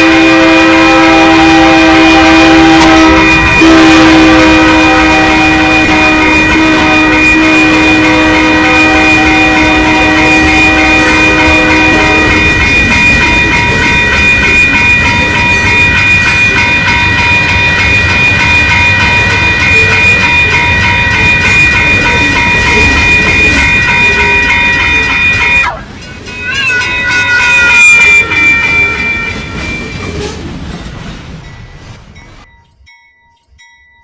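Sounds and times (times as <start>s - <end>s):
high held tones: 0.0s - 30.5s
train wheels rumbling on rails: 0.0s - 34.0s.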